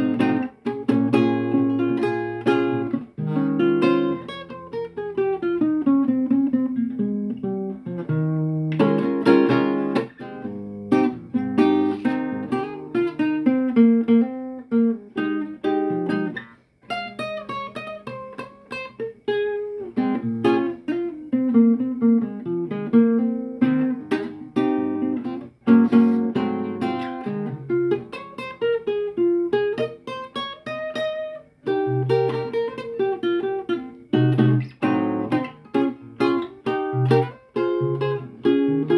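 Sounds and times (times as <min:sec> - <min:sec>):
acoustic guitar improvisation: 0:00.0 - 0:38.9.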